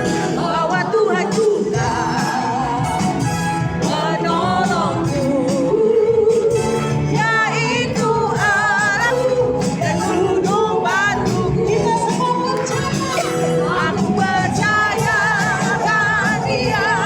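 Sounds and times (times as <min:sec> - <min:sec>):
musical accompaniment: 0:00.0 - 0:17.0
solo voice singing with vibrato: 0:00.0 - 0:17.0.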